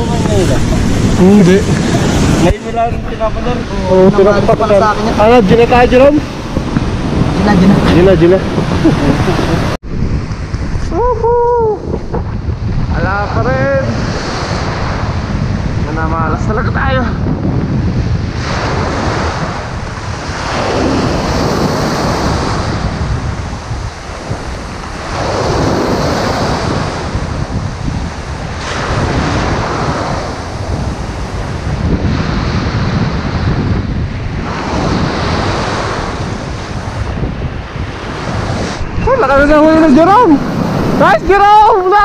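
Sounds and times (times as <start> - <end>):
surf breaking on shore: 0.0 - 42.0
wind rumbling on microphone: 0.0 - 42.0.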